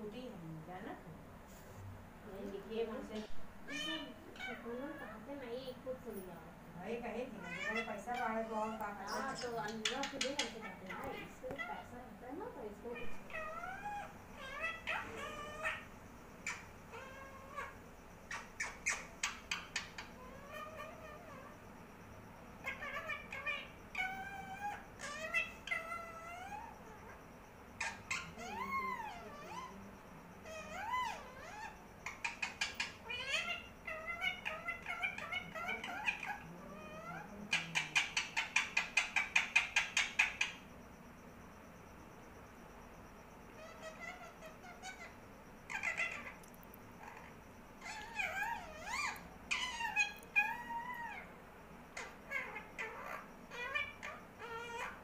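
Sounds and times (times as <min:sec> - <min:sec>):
parakeet calling and chirping: 0:02.4 - 0:06.3, 0:07.0 - 0:55.0.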